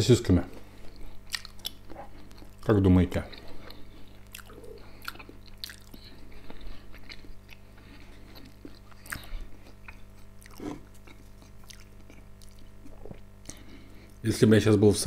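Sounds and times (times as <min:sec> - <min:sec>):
person chewing food: 0:00.5 - 0:14.2.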